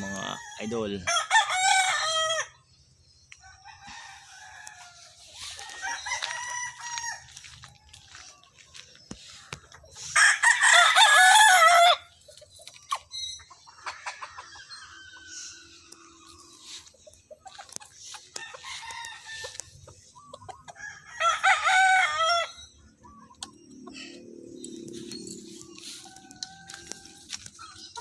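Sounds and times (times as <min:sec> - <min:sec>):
roosters crowing: 0:00.0 - 0:02.8, 0:03.4 - 0:12.4, 0:13.1 - 0:28.0.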